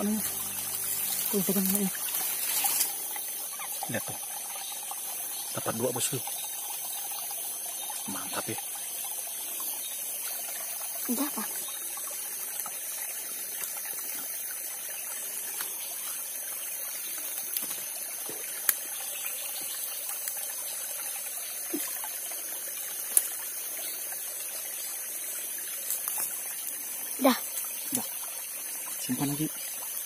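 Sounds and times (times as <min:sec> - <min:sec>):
stream trickling over stones: 0:00.0 - 0:30.0.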